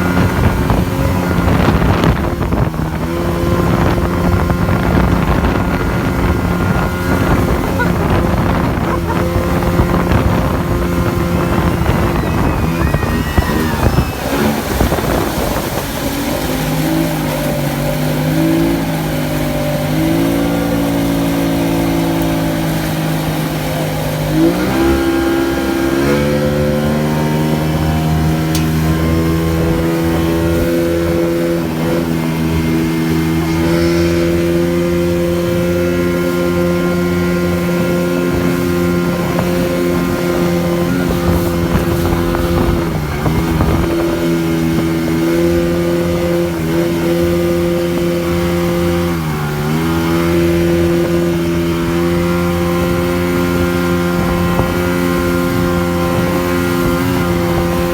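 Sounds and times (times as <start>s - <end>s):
motorboat engine running: 0.0s - 57.9s
rushing water: 0.0s - 57.9s
rushing wind: 0.0s - 57.9s.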